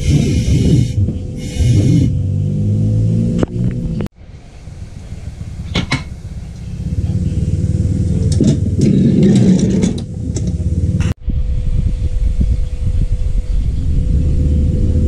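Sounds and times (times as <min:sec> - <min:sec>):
motor rumbling: 0:00.0 - 0:15.0.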